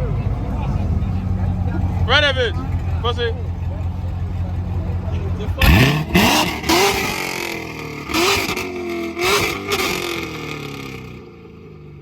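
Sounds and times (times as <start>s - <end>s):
pickup truck engine revving: 0.0s - 11.3s.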